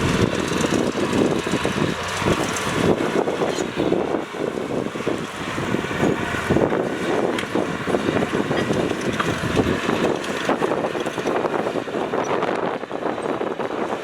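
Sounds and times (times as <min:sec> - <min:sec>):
earthmoving machinery engine: 0:00.0 - 0:14.0.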